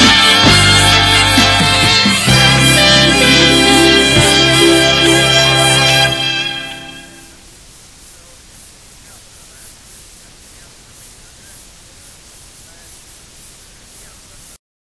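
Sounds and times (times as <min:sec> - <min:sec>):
cassette tape hiss: 0:00.0 - 0:14.6.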